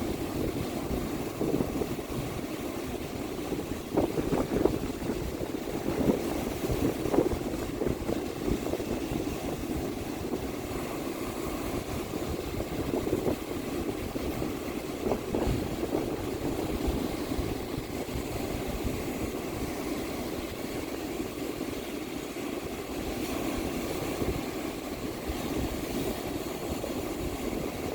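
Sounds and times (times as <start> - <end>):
ocean surf washing onto beach: 0.0 - 27.9
wind buffeting microphone: 0.0 - 27.9.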